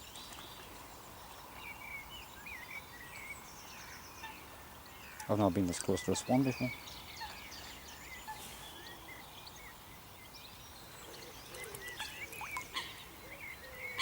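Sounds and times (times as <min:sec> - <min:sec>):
small birds chirping: 0:00.0 - 0:14.0
steady outdoor hiss: 0:00.0 - 0:14.0.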